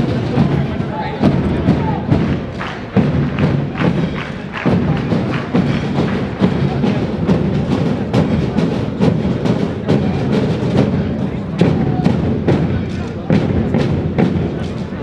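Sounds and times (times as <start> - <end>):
march music: 0.0 - 15.0
steady drum beat: 0.0 - 15.0.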